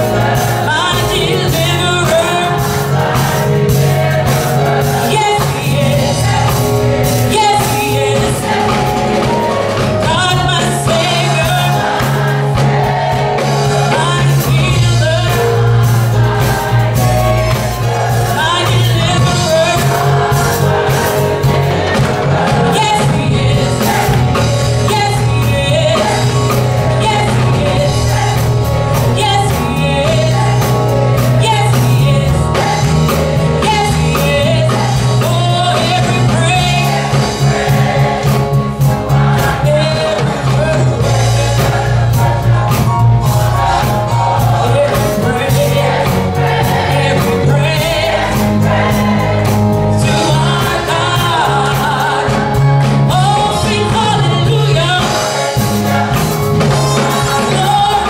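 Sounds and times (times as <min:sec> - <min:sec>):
gospel choir singing: 0:00.0 - 0:58.0
low instrumental accompaniment: 0:00.0 - 0:58.0.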